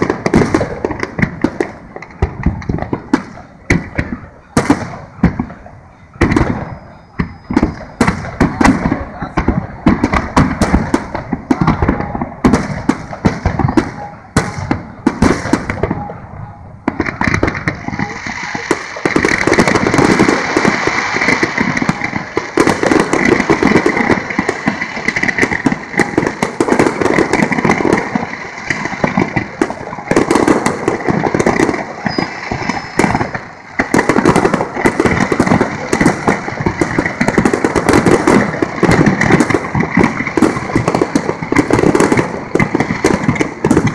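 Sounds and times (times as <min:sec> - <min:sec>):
fireworks bangs and crackle: 0:00.0 - 0:43.9.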